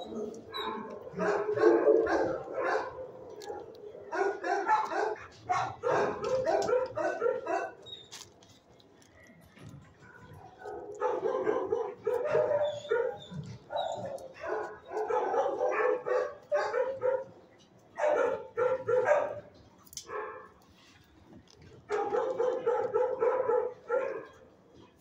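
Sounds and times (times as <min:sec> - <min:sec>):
dogs barking: 0:00.0 - 0:08.3, 0:09.8 - 0:20.6, 0:21.8 - 0:25.0.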